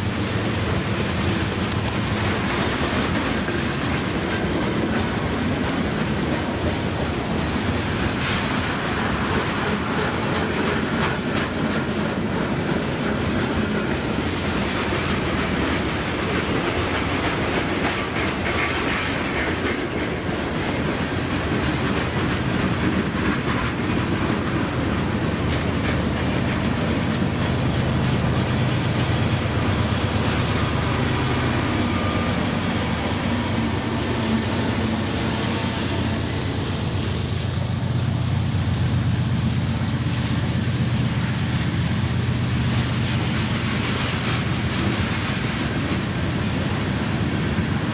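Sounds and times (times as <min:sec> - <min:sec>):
freight train wheels clacking: 0:00.0 - 0:47.9.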